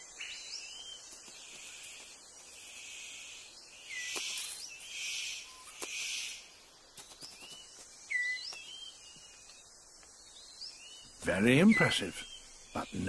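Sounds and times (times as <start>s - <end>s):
steady insect hiss: 0.0s - 13.0s.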